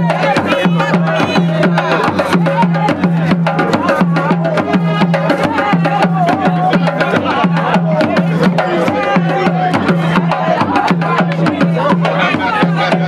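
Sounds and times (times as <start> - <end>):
hand drums playing: 0.0 - 13.0
voices singing or calling: 0.0 - 13.0.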